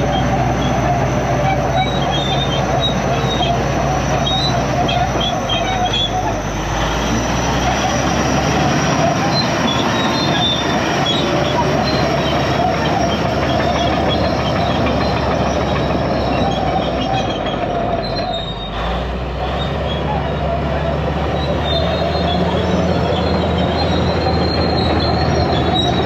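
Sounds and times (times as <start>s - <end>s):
bulldozer diesel engine running: 0.0s - 26.0s
steel tracks clattering and squealing: 0.0s - 26.0s.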